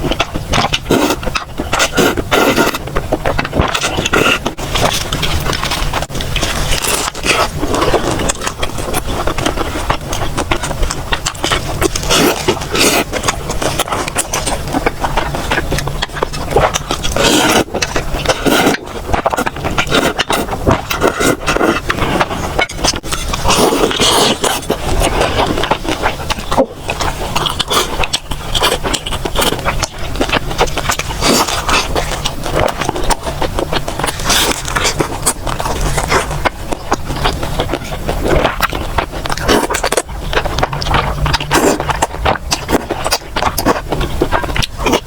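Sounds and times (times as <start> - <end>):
mouth clicks and smacks: 0.0 - 45.0
wet chewing and crunching: 0.0 - 45.0.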